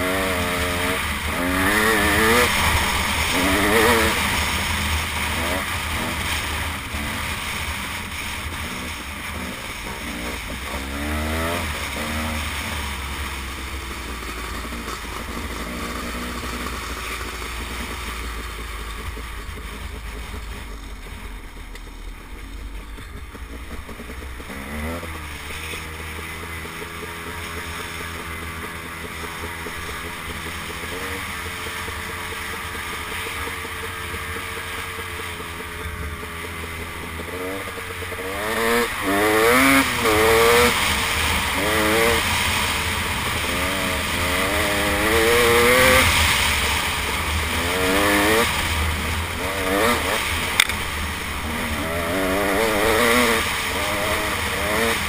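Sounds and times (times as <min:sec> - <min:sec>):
dirt bike engine revving: 0:00.0 - 0:22.4, 0:23.2 - 0:55.0.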